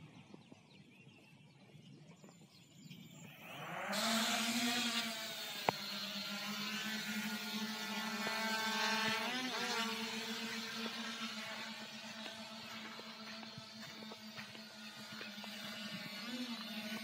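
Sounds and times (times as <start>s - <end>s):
drone motors whining and buzzing: 2.8s - 17.0s.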